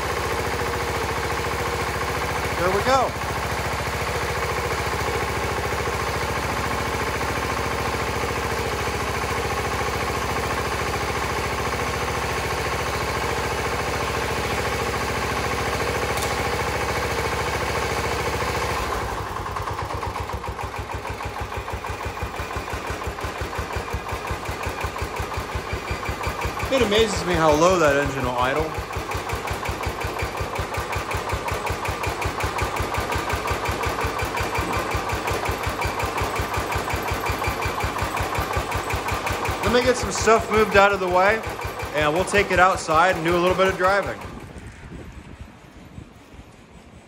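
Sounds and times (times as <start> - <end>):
tractor engine chugging: 0.0 - 46.4.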